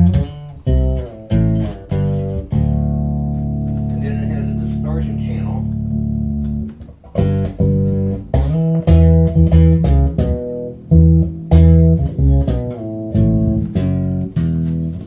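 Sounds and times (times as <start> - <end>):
distorted electric bass notes: 0.0 - 15.0.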